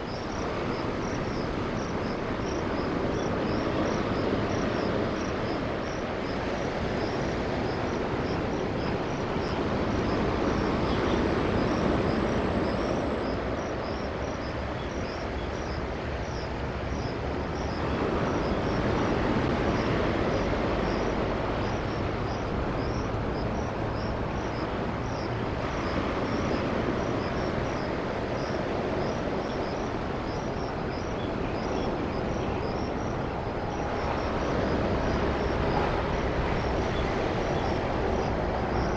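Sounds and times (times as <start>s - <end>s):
insect chirping: 0.0s - 38.9s
train rumbling: 0.0s - 38.9s.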